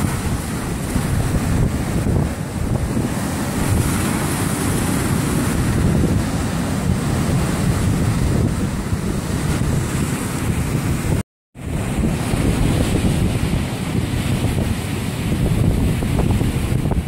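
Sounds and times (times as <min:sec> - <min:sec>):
heavy surf breaking: 0:00.0 - 0:17.0
wind buffeting microphone: 0:00.0 - 0:17.0.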